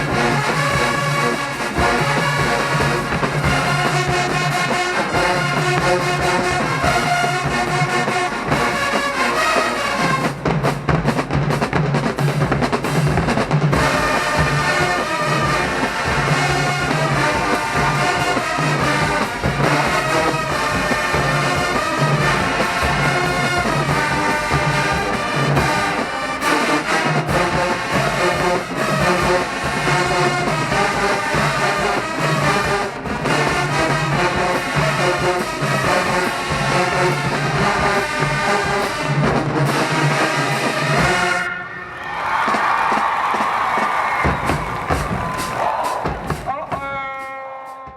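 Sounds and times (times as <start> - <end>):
marching band playing: 0.0 - 47.9.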